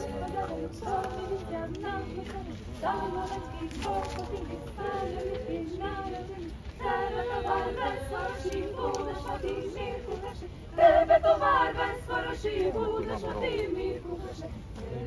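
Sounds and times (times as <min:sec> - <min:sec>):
choir singing a cappella: 0:00.0 - 0:15.0.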